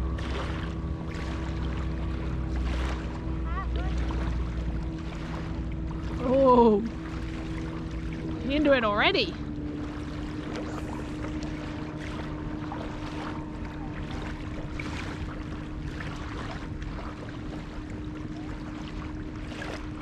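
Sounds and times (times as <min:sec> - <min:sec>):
distant boat engine hum: 0:00.0 - 0:20.0
small waves lapping shoreline: 0:00.0 - 0:20.0.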